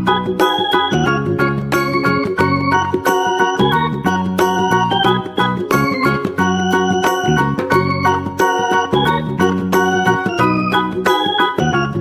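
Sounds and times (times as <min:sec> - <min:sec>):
upbeat children's music: 0:00.0 - 0:12.0.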